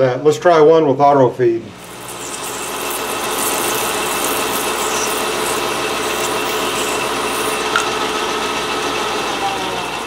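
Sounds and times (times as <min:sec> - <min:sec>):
metal lathe cutting: 0:01.7 - 0:10.0.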